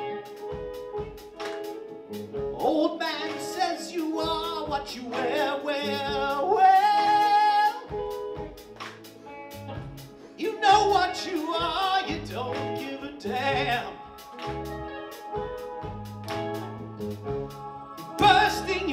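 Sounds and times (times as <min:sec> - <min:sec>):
live rock band playing: 0:00.0 - 0:18.9.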